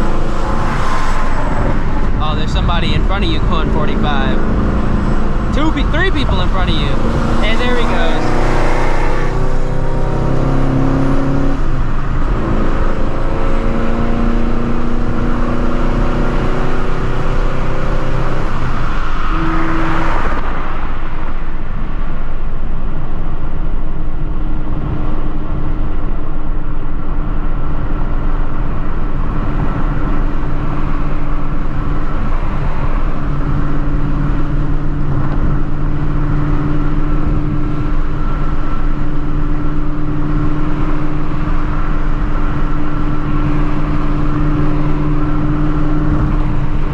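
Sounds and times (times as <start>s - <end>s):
car engine at highway speed: 0.0s - 46.9s
road and tyre noise: 0.0s - 46.9s.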